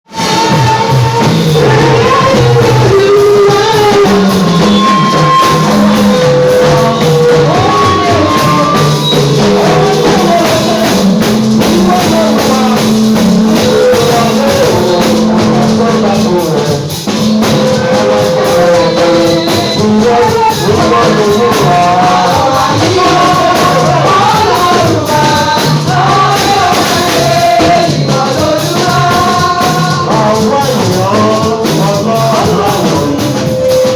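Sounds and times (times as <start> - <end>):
rhythmic percussion: 0.0 - 33.9
worship singing: 0.1 - 33.9.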